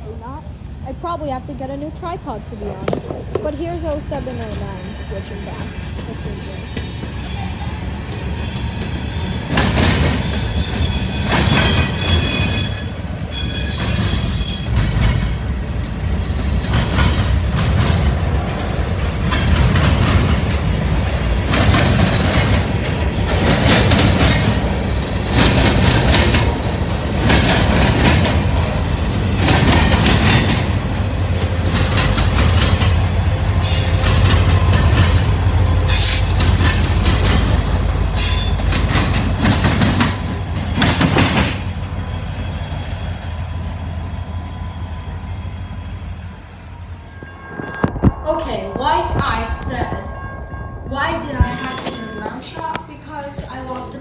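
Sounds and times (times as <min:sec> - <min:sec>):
freight train rumbling: 0:00.0 - 0:54.0
train wheels squealing on rails: 0:00.0 - 0:54.0.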